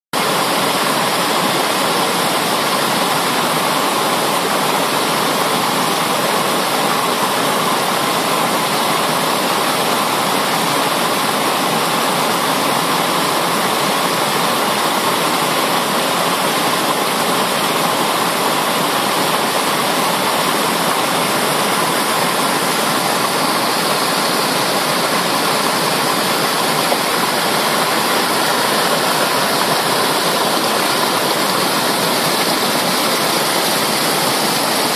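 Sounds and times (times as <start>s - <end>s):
creek rushing over rocks: 0.2s - 34.9s.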